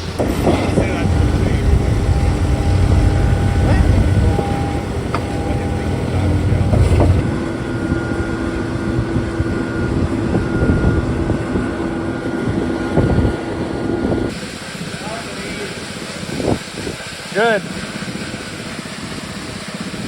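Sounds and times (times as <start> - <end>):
heavy machinery rumble and whine: 0.0 - 20.0.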